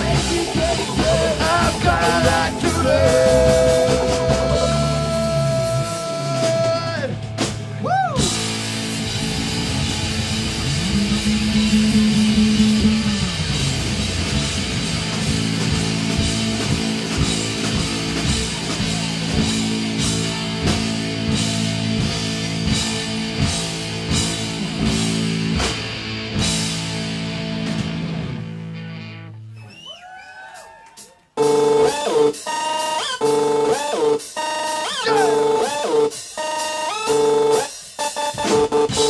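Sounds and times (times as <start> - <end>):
drum kit: 0.0 - 28.6, 30.4 - 39.0
electric guitar chords: 0.0 - 29.5, 31.4 - 39.0.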